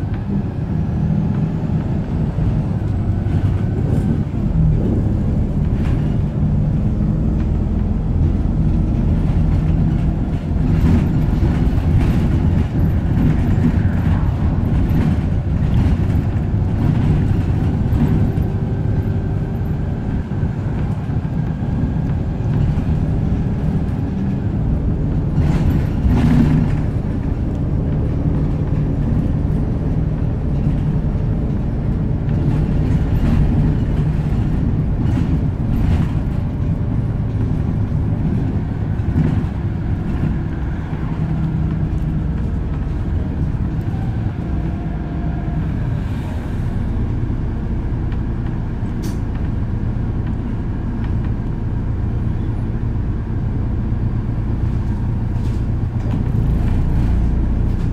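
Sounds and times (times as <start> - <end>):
bus diesel engine drone: 0.0 - 57.9.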